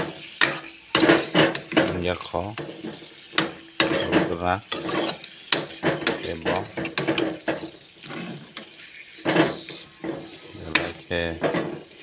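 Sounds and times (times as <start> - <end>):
metal spatula scraping frying pan: 0.0 - 12.0.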